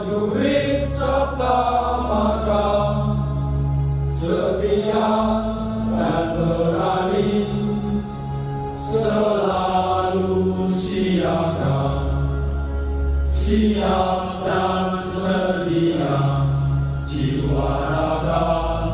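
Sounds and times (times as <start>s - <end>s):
men singing in unison: 0.0s - 3.4s, 4.2s - 8.1s, 8.8s - 12.4s, 13.3s - 18.9s.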